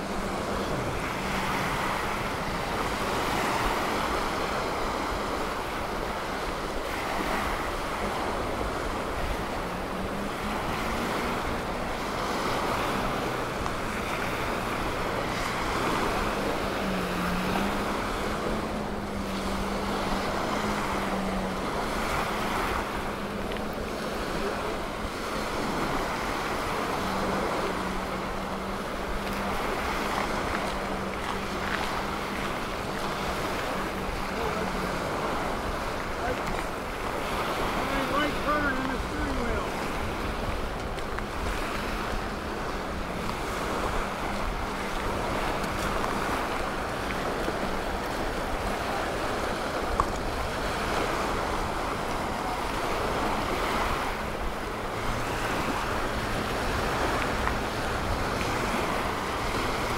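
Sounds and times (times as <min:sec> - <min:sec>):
faint engine-like hum: 0:00.0 - 0:59.9
small waves washing on sand: 0:00.0 - 0:59.9
wind on microphone: 0:00.0 - 0:59.9.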